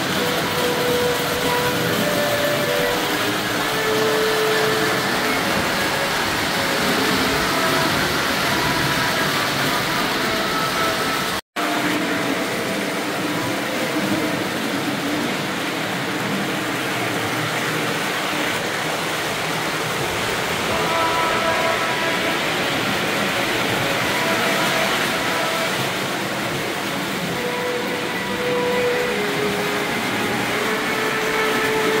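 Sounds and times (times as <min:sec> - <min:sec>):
model trains rumbling on track: 0:00.0 - 0:32.0.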